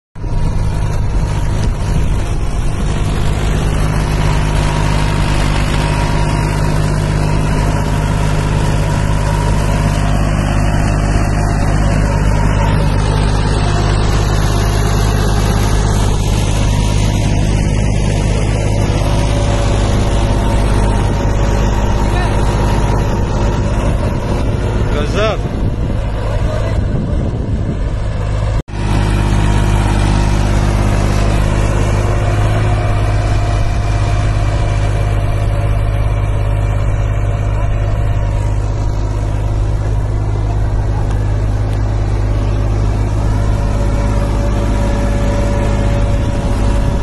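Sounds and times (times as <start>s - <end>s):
tractor diesel engine running: 0.2s - 47.0s.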